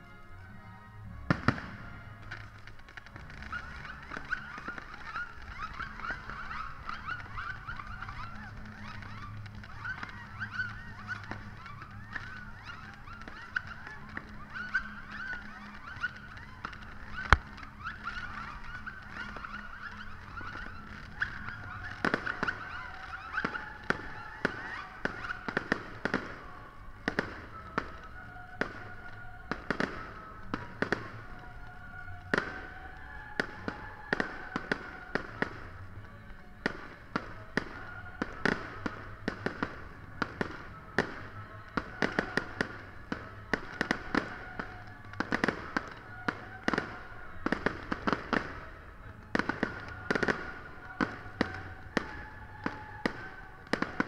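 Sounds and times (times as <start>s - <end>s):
fireworks bangs and crackles: 1.1s - 54.0s.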